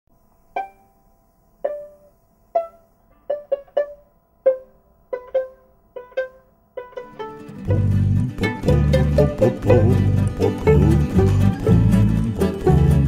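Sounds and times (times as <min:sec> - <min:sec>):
plucked string melody: 0:00.5 - 0:01.0, 0:01.6 - 0:13.0.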